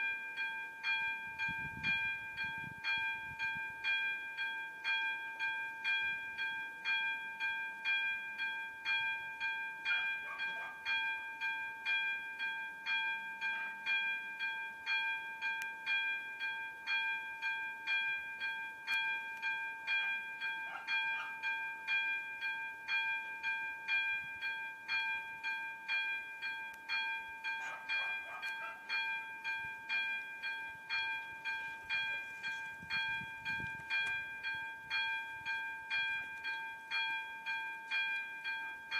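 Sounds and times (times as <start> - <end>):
level crossing warning bell: 0.0 - 38.9.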